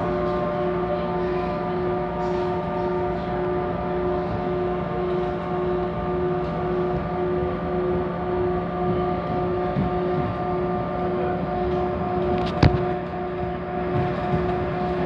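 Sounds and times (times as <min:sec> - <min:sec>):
steady electric hum: 0:00.0 - 0:15.0
train wheels rumbling on rails: 0:00.0 - 0:15.0.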